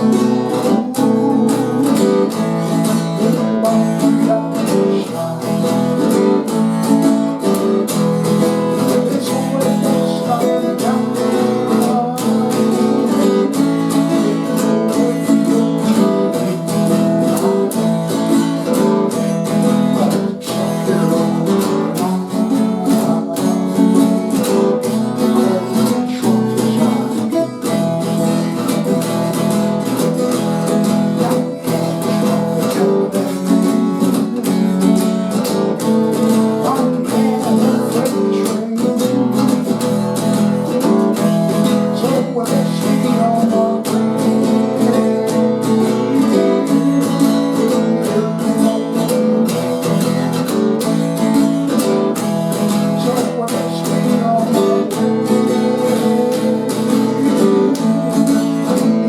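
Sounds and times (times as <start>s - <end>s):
acoustic guitar country-folk song: 0.0s - 59.0s.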